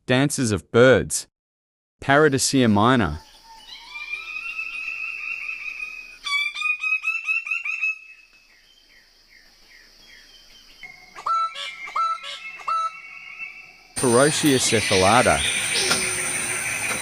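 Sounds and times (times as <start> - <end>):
bird calling: 2.8 - 17.0.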